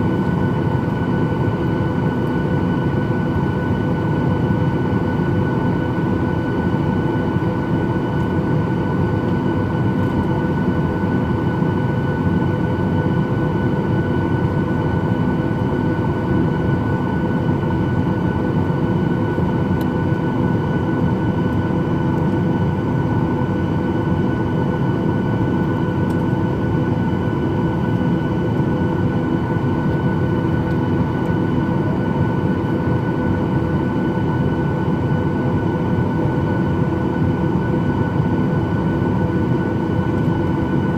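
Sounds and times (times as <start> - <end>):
jet engine whine: 0.0 - 40.9
jet engines rumbling in cabin: 0.0 - 40.9.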